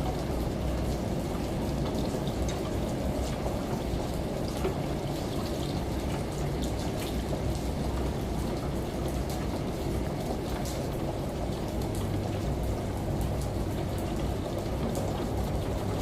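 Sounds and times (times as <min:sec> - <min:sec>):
rain: 0:00.0 - 0:16.0
washing machine rumble: 0:00.0 - 0:16.0
shower running: 0:00.4 - 0:16.0.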